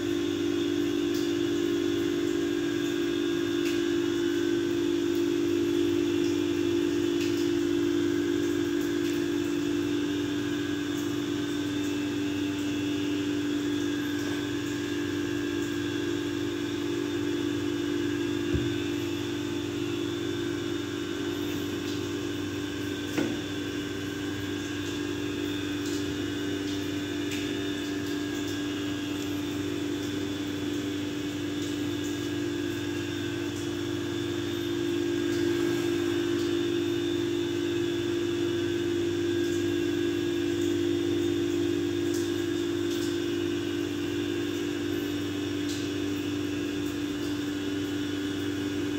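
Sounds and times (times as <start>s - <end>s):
motor or fan humming: 0.0s - 48.9s.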